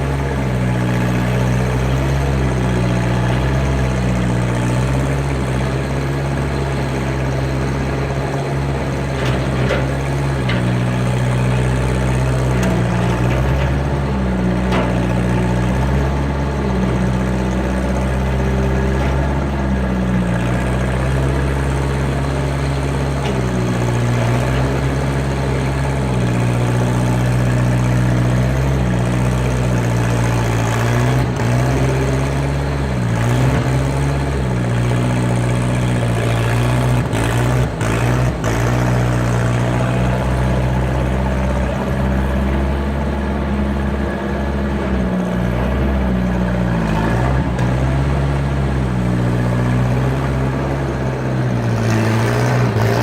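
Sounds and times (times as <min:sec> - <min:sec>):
skid steer engine running: 0:00.0 - 0:53.0.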